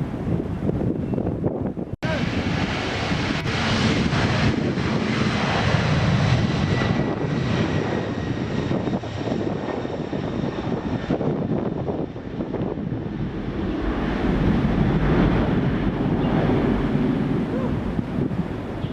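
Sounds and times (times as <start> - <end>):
airliner engine rushing: 0.0 - 18.9.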